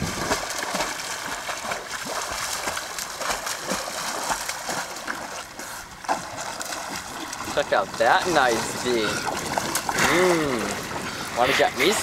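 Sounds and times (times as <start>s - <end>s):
swimmer splashing: 0.0s - 12.0s.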